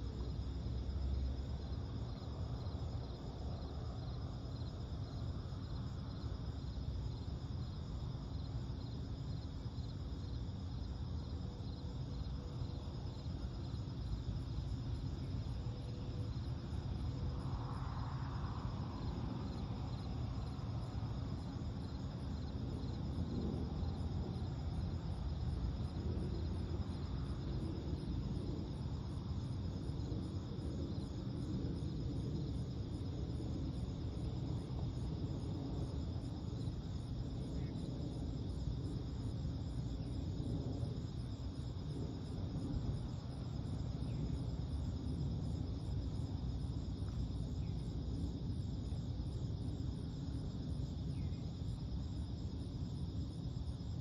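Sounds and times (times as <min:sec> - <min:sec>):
crickets chirping: 0:00.0 - 0:54.0
low background rumble: 0:00.0 - 0:54.0.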